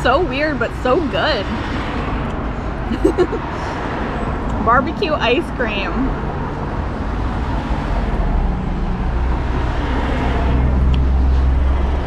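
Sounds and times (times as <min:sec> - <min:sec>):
rumble of passing cars: 0:00.0 - 0:12.0.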